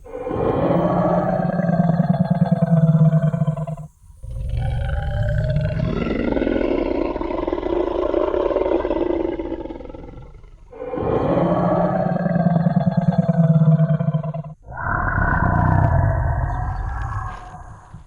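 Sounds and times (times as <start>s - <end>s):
deep dinosaur roar: 0.0s - 18.0s.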